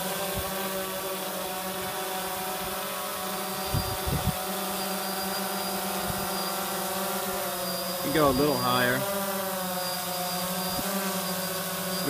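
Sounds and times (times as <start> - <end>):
quadcopter buzzing hum: 0.0 - 12.0.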